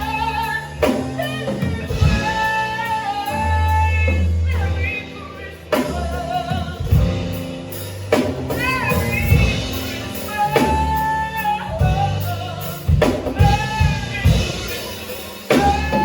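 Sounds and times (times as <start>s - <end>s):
gospel band music: 0.0s - 16.0s.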